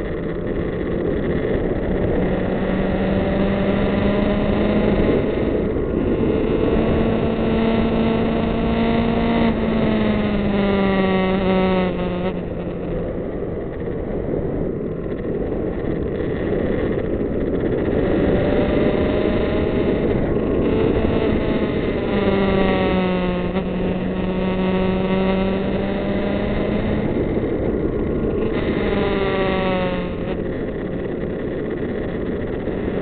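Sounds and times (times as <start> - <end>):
motorcycle engine running: 0.0 - 33.0
wind and road noise: 0.0 - 33.0.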